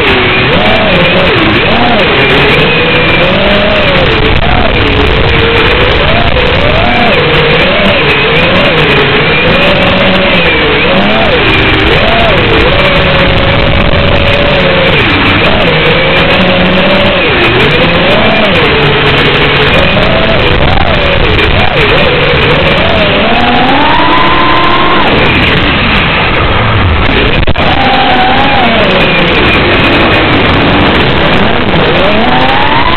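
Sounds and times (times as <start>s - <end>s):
drone motors whining: 0.0s - 32.9s.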